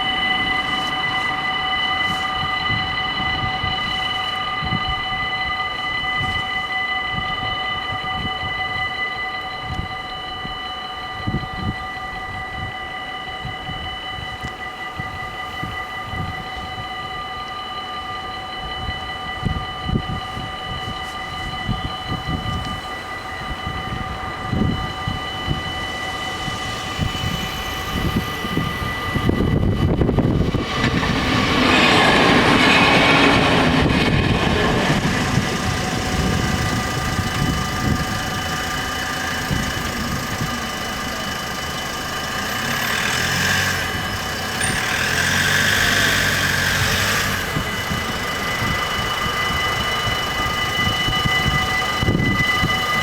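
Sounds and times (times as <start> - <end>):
level crossing warning bells: 0.0 - 53.0
passenger train rushing past: 0.0 - 53.0.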